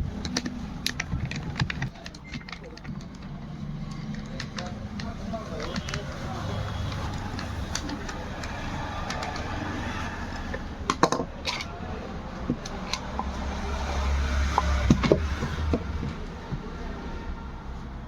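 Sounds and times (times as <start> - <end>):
clicks of small hard parts: 0.0 - 16.7.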